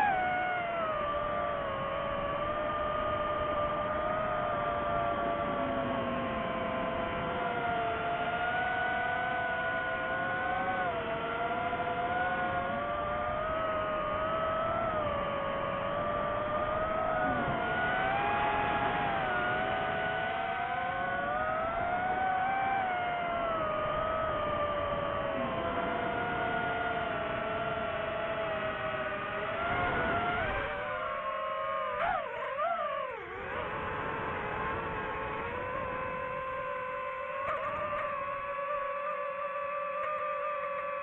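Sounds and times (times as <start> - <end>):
drone motors whining: 0.0 - 41.0.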